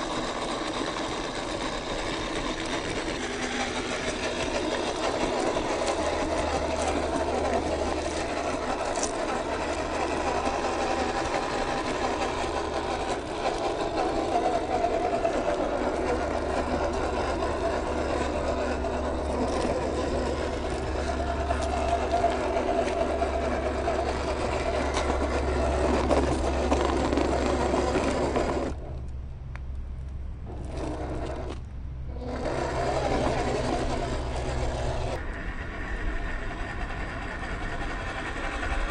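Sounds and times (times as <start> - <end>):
small electric motor whirring: 0.0 - 28.8, 30.5 - 38.9.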